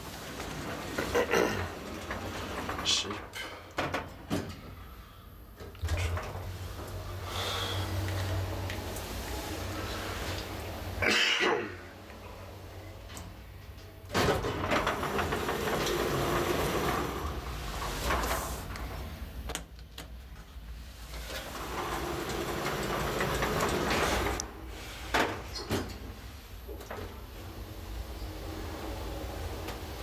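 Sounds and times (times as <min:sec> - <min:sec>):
elevator doors sliding: 0:00.0 - 0:30.0
elevator running: 0:00.0 - 0:30.0.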